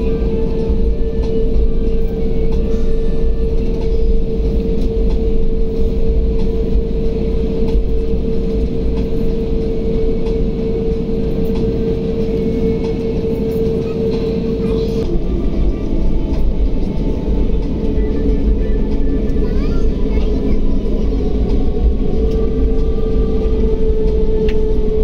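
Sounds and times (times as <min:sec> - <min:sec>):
airliner cabin rumble: 0:00.0 - 0:25.0
steady hum: 0:00.0 - 0:25.0.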